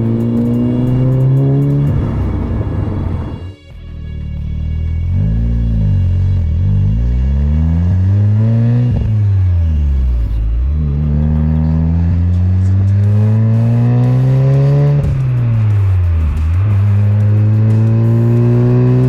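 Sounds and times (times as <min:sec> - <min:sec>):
car engine accelerating hard: 0:00.0 - 0:03.6, 0:04.8 - 0:19.0.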